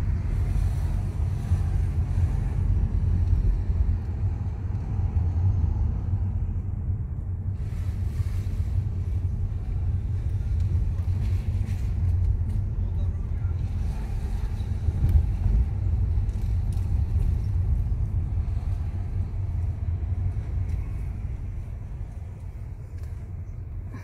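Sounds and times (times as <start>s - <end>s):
car engine and road noise rumble: 0.0s - 24.0s.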